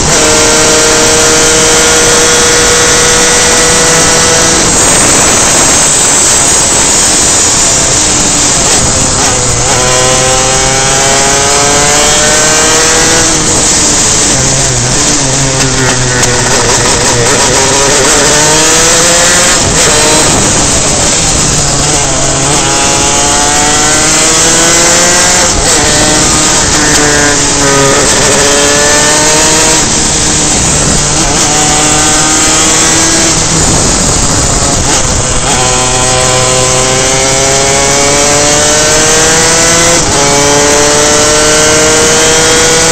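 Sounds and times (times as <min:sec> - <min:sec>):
heavy wind rush: 0:00.0 - 0:42.9
kart engine revving: 0:00.0 - 0:42.9.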